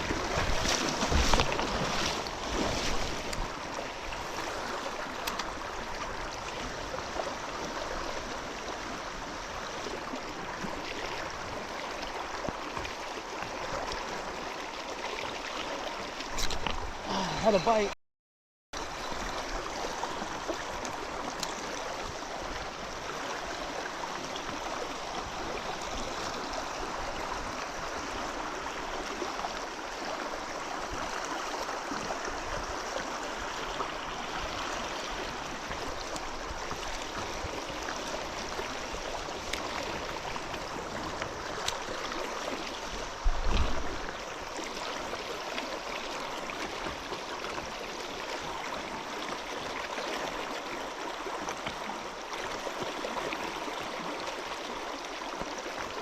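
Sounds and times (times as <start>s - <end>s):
river water running: 0.0s - 18.0s, 18.8s - 56.0s.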